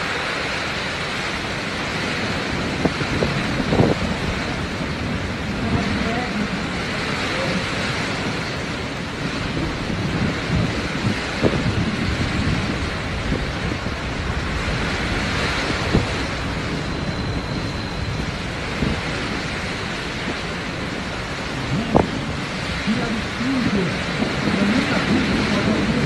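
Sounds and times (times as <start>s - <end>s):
driving rain: 0.0s - 26.0s
storm wind: 0.0s - 26.0s
wind buffeting microphone: 0.0s - 26.0s.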